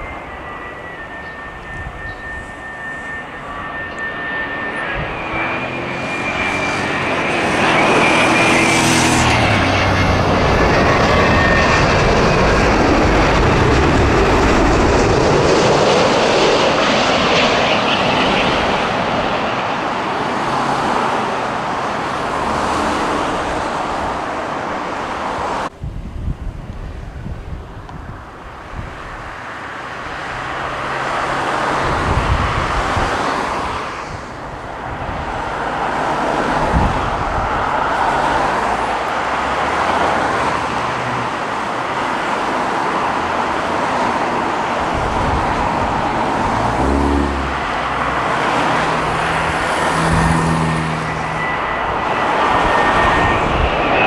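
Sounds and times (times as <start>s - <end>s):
jet airliner flying past: 0.0s - 54.0s.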